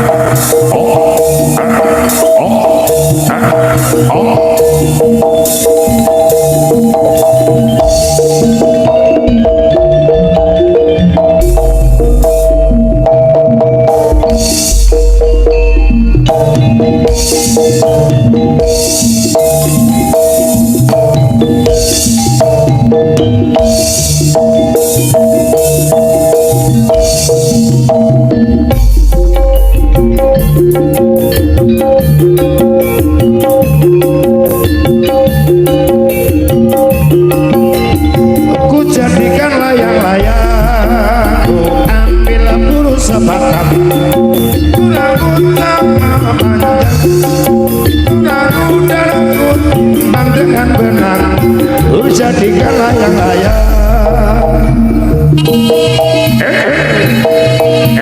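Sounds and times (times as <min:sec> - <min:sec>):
drum strokes: 0:00.0 - 0:58.0
gamelan pitched percussion: 0:00.0 - 0:58.0.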